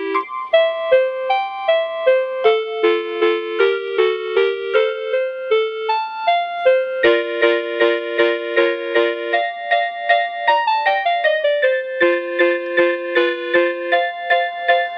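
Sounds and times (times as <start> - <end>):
electronic lullaby melody: 0.0 - 14.9.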